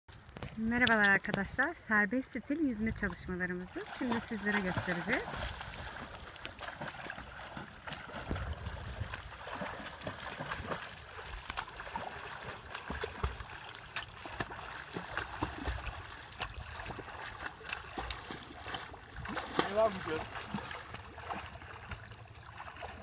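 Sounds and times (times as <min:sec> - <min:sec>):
steady wash of water: 0:03.4 - 0:23.0
swimmer splashing: 0:03.4 - 0:23.0.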